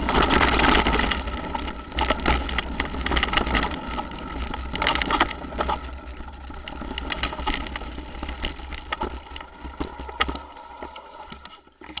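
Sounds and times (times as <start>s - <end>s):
bike rattling over bumps: 0.0s - 10.5s
bike tyres rumbling on gravel: 0.0s - 11.0s.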